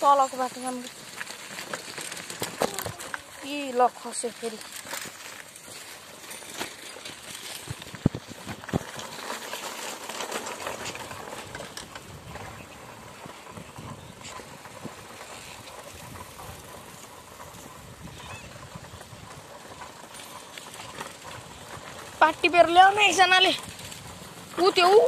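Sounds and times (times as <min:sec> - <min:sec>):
bicycle rattling over gravel: 0:00.0 - 0:25.0.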